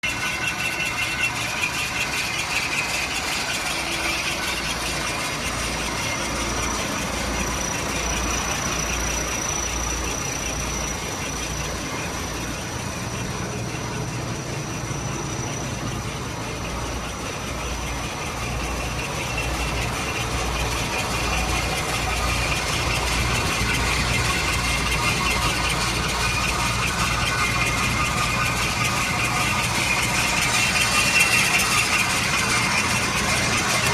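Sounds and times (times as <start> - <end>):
diesel wood chipper engine running: 0.0 - 33.9
thin high whine: 0.0 - 33.9.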